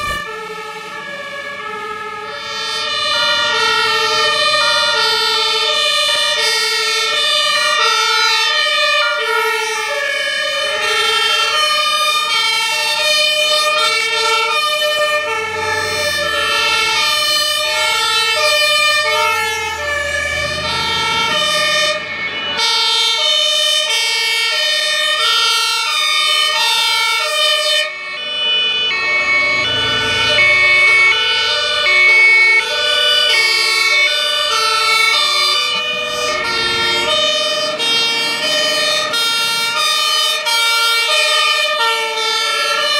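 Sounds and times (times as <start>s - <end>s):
diesel engines rumbling: 0.0s - 42.9s
fire truck two-tone sirens: 0.0s - 42.9s.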